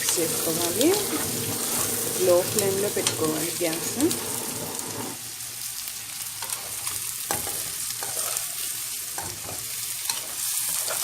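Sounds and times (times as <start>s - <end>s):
frying hiss in a pan: 0.0s - 11.0s.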